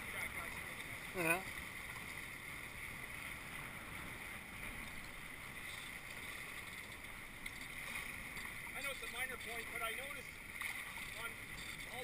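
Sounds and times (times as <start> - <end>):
water rushing along a hull: 0.0 - 12.0.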